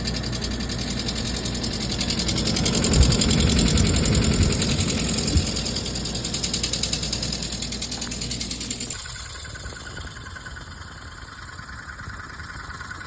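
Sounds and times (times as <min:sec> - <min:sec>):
blower with mechanical rattle: 0:00.0 - 0:13.0.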